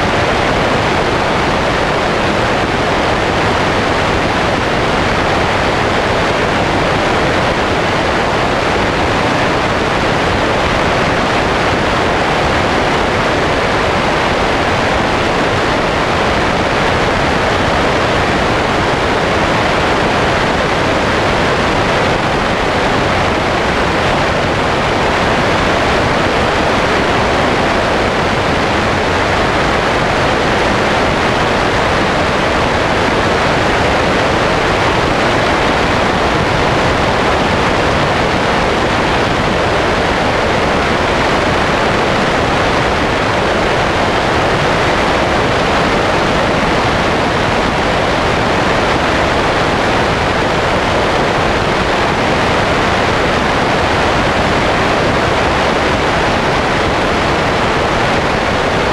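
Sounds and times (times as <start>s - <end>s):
wind rushing over camera: 0.0s - 58.9s.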